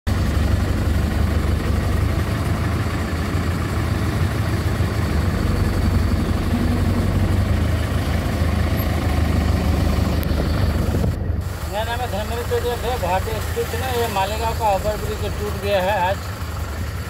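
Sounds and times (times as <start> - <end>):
vehicle engine idling: 0.1 - 17.0.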